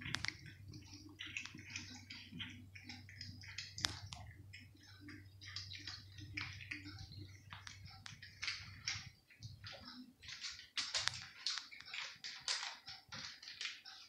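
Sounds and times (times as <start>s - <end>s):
cat chewing meat: 0.0s - 14.0s.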